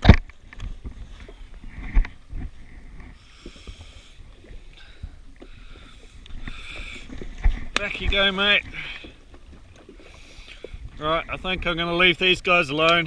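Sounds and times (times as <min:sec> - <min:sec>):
waves lapping against hull: 0:00.0 - 0:13.0.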